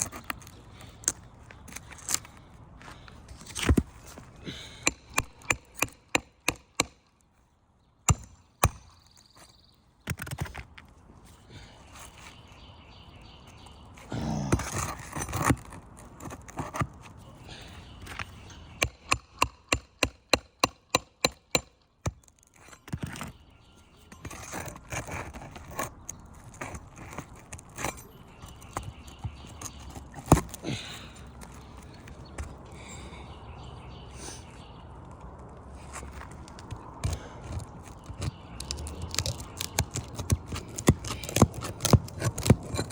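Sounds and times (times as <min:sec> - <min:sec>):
shingle scraping and rustling: 0:00.0 - 0:07.5, 0:08.8 - 0:32.9, 0:35.4 - 0:42.9.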